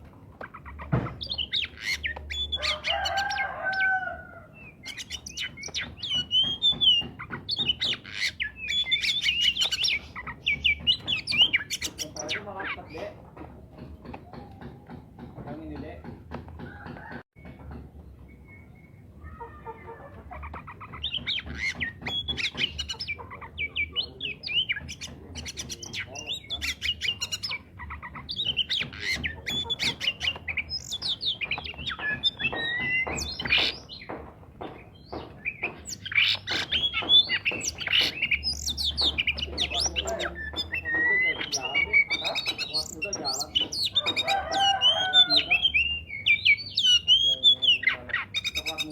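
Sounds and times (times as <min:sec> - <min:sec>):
bird singing chirps and whistles: 0:01.1 - 0:13.1, 0:18.2 - 0:19.1, 0:21.0 - 0:34.1, 0:34.9 - 0:48.9.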